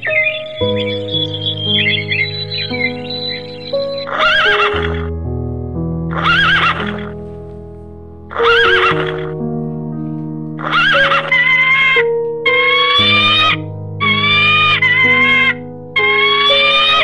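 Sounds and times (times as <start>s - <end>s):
background music of held notes: 0.0s - 17.0s.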